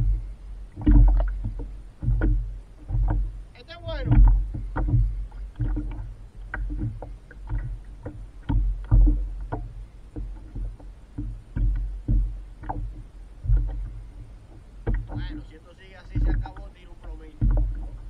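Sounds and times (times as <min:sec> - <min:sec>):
low rumble: 0:00.0 - 0:18.0
water splashing against a kayak: 0:00.0 - 0:18.0.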